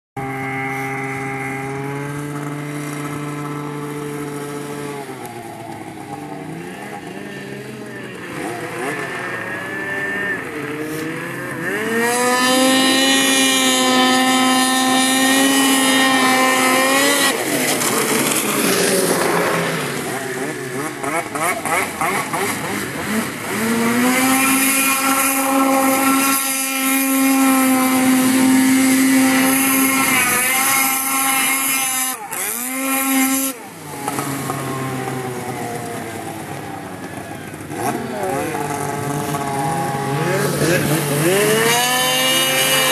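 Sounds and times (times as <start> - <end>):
snowmobile engine at high revs: 0.2 - 42.9.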